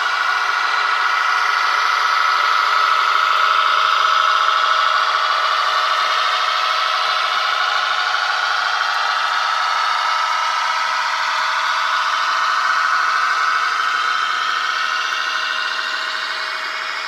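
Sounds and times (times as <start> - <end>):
diesel engine noise from small speaker: 0.0 - 17.0
model train wheels on rails: 0.0 - 17.0.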